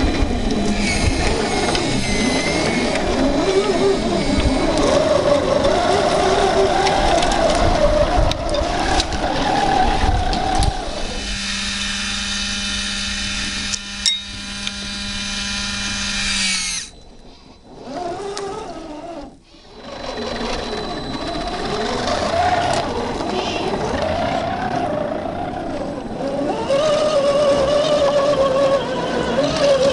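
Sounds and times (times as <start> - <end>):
toy truck gear whine: 0.0 - 29.9
winch motor whine: 0.0 - 29.9.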